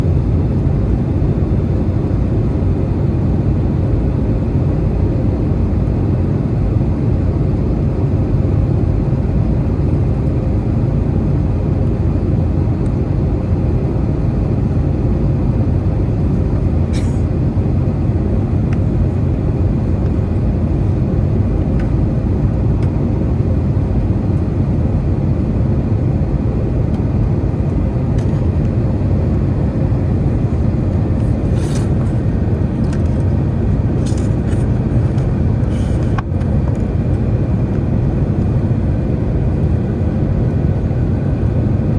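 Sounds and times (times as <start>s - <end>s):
airliner cabin engine roar: 0.0s - 41.9s.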